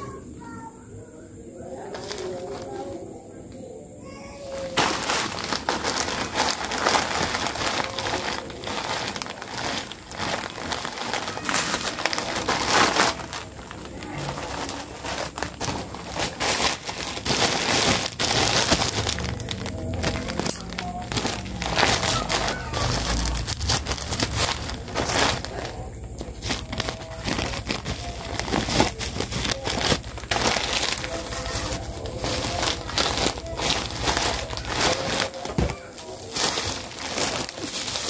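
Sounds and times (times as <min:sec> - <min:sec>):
plastic bag crinkling: 0:01.6 - 0:03.0, 0:04.0 - 0:38.0
scissors cutting plastic: 0:04.7 - 0:38.0.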